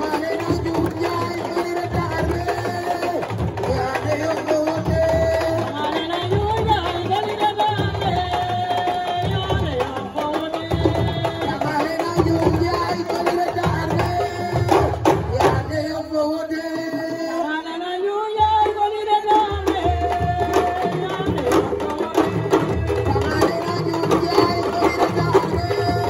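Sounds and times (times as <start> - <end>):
fast hand drumming: 0.0 - 17.5, 18.4 - 26.0
woman singing into microphone: 0.0 - 26.0.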